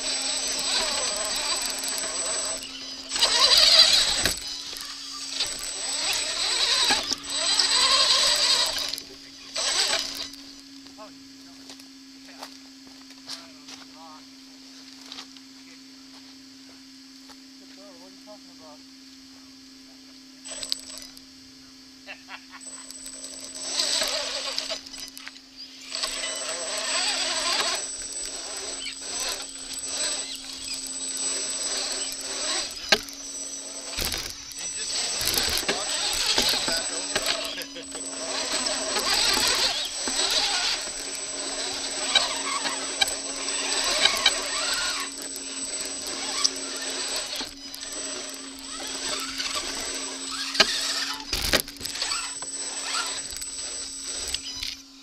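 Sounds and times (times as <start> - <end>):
electric motor whining: 0.0 - 14.2, 20.4 - 55.0.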